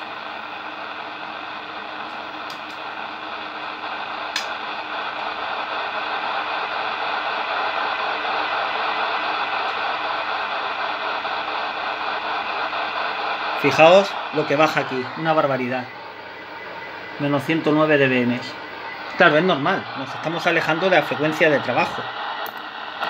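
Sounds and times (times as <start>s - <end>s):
radio receiver hiss: 0.0s - 23.0s.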